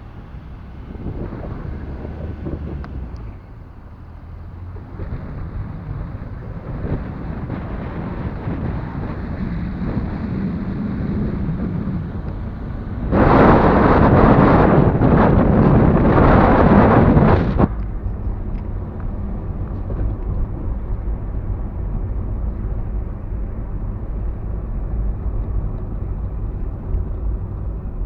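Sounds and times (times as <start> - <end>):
car tyres and engine rumble: 0.0 - 28.0
wind buffeting microphone: 0.0 - 28.0.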